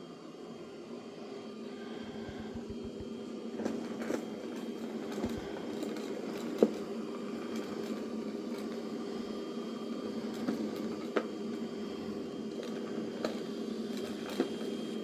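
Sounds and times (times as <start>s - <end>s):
robot vacuum humming: 1.6s - 15.0s.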